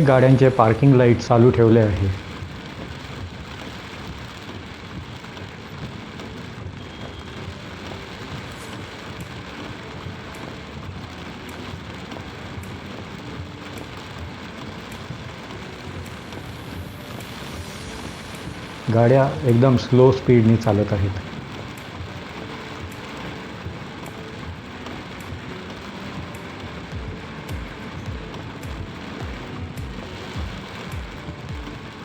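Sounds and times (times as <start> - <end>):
heavy rain: 0.0 - 32.0
slow road traffic: 0.0 - 32.0.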